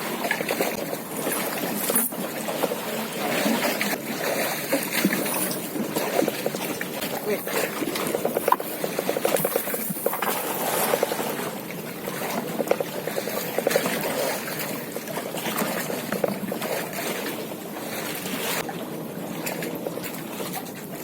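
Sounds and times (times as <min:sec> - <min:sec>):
water splashing around boat: 0:00.0 - 0:21.0.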